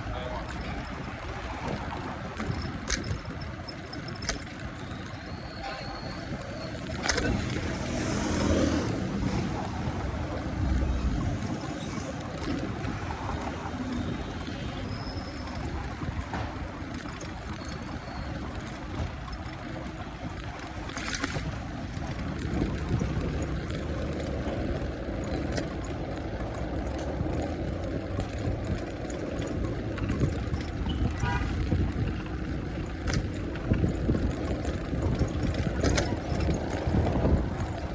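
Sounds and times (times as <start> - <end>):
motor traffic rumble: 0.0 - 37.9.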